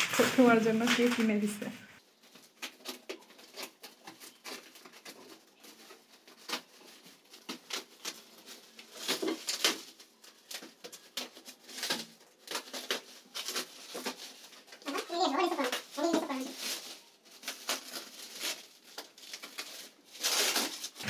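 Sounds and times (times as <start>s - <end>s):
plastic film crinkling: 0.0s - 21.0s.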